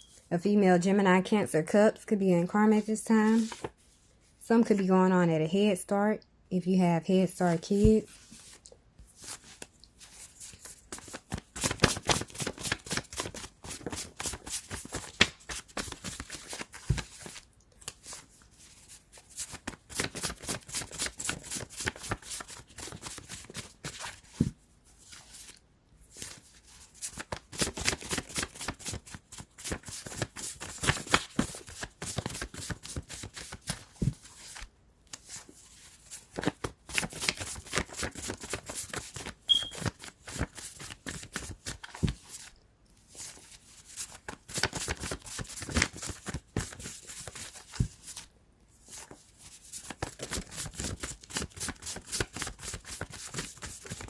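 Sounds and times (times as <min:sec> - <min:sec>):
cards being shuffled: 0:03.3 - 0:03.8, 0:07.8 - 0:42.5, 0:43.1 - 0:48.2, 0:48.9 - 0:54.0.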